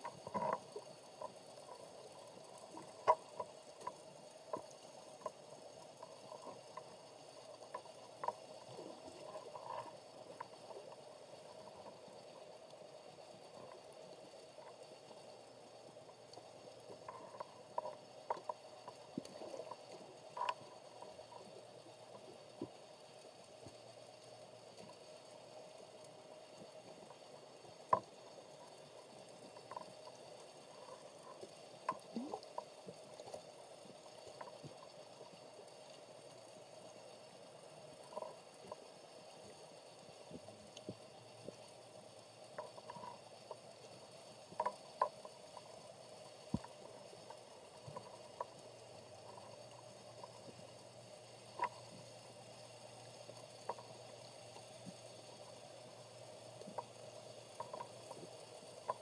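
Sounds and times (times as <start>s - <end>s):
underwater hum and hiss: 0.0s - 59.0s.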